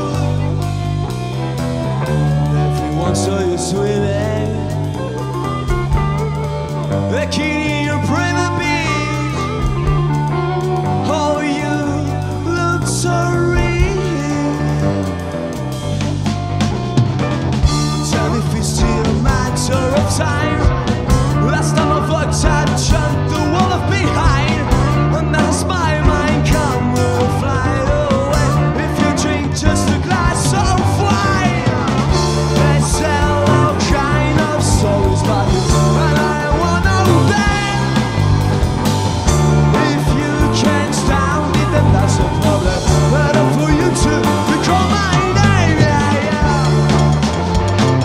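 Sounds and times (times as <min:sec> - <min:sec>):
man singing: 0:00.0 - 0:16.0, 0:17.6 - 0:48.0
male lead vocal: 0:00.0 - 0:16.4, 0:17.6 - 0:48.0
electric bass: 0:00.0 - 0:48.0
electric guitars: 0:00.0 - 0:48.0
rock band playing live: 0:00.0 - 0:48.0.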